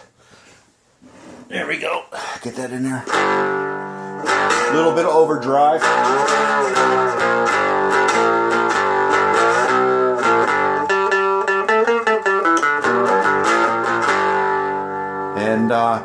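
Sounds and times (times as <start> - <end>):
overdriven guitar strumming chords: 3.0 - 16.0.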